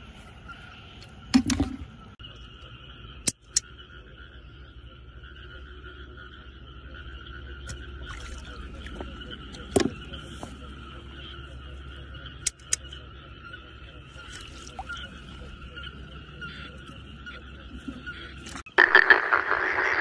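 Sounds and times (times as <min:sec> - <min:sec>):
frogs calling: 0:00.0 - 0:20.0.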